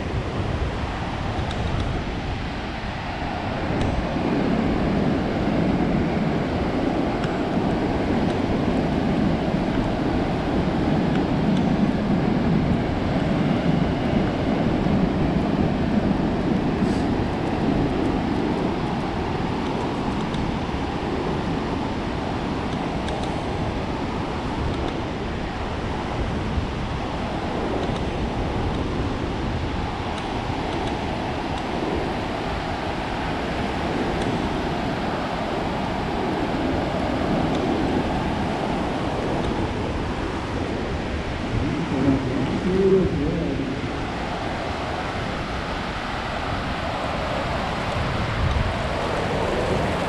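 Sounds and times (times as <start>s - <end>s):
surf breaking on sandy beach: 0.0s - 50.0s.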